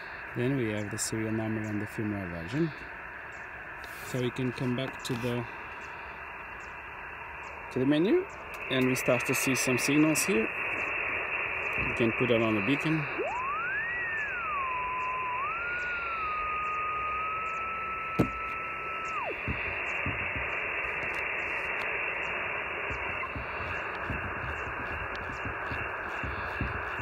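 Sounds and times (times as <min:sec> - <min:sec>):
radio whistle tone: 0:00.0 - 0:27.0
receiver hiss: 0:00.0 - 0:27.0.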